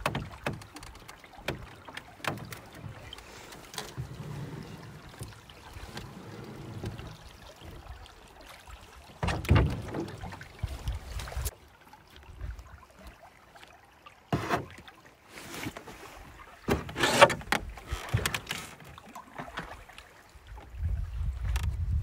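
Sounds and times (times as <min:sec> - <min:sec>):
canoe paddles splashing in water: 0:00.0 - 0:13.6, 0:14.2 - 0:21.6.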